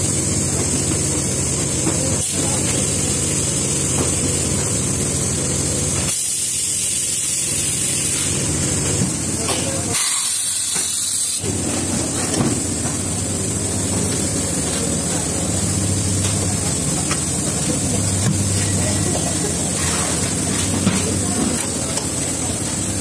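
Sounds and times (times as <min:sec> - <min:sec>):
shrink-wrapping machine humming: 0:00.0 - 0:23.0.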